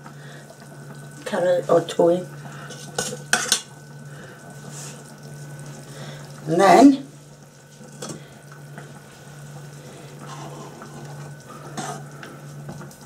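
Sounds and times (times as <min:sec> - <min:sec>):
low constant hum: 0:00.0 - 0:13.0.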